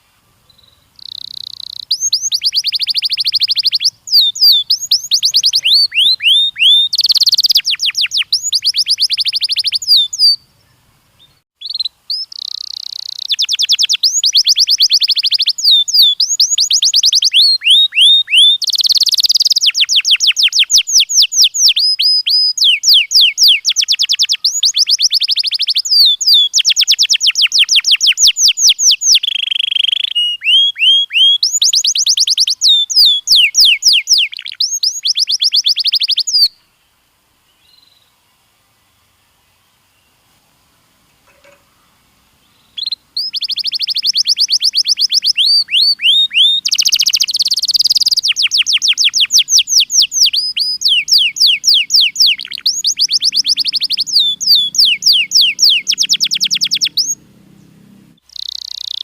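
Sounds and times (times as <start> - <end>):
canary singing trills: 0.0 - 36.7, 40.8 - 59.0.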